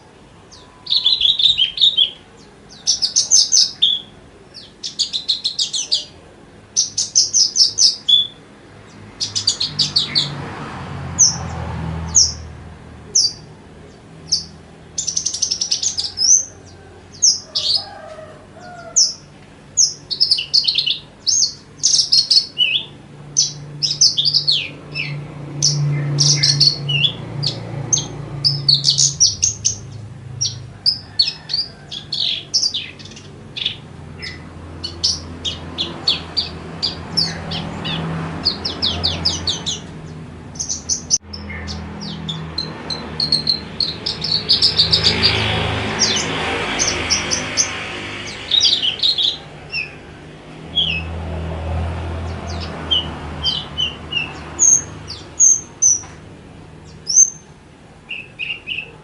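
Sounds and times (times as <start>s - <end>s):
bird singing chirps and trills: 0.0s - 56.2s, 56.8s - 59.0s.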